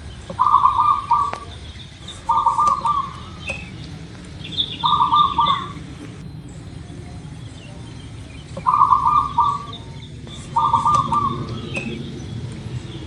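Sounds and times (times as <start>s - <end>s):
high bird chirping: 0.0s - 13.0s
dove cooing: 0.2s - 13.0s.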